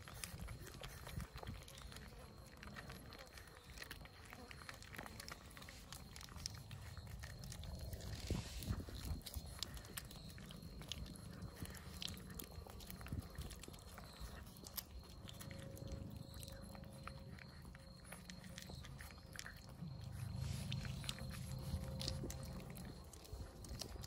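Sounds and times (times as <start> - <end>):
cat licking: 0.0 - 24.0
cats crunching dry kibble: 0.0 - 24.0
low background rumble: 0.0 - 24.0.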